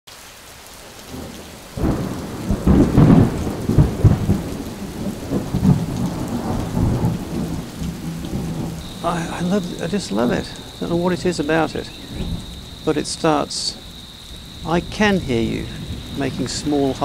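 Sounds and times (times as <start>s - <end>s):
rain falling: 0.1s - 17.0s
thunder rumbling: 0.8s - 17.0s.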